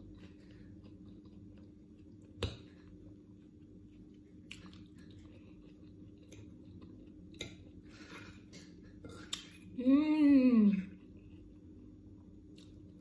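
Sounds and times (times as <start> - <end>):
person chewing food: 0.0 - 9.8, 10.8 - 13.0.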